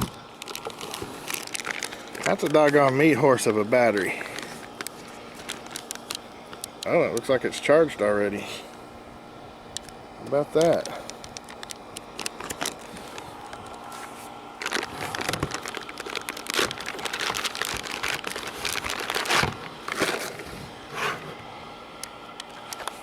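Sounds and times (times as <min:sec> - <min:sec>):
packaging crinkling and rustling: 0:00.0 - 0:07.4, 0:09.8 - 0:21.3
faint steady hum: 0:00.0 - 0:23.0.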